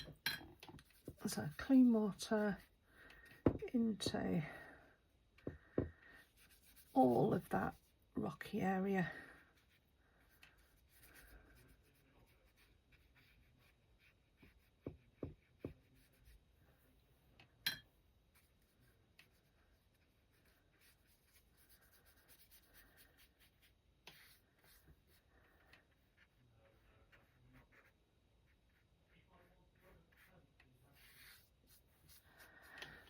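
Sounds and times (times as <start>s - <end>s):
paintbrush brushing on paper: 0.6s - 4.1s, 5.0s - 17.2s, 18.2s - 33.0s.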